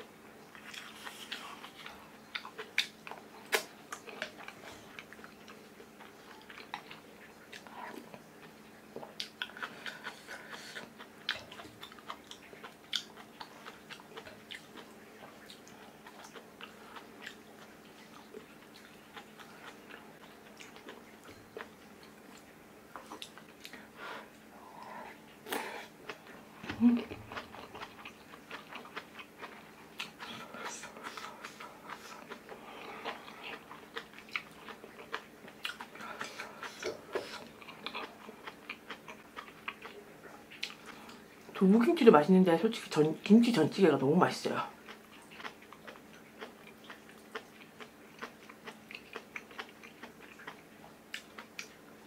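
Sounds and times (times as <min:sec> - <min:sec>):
close-up chewing and mouth sounds: 0:00.0 - 0:52.0
faint low hum: 0:00.0 - 0:52.0.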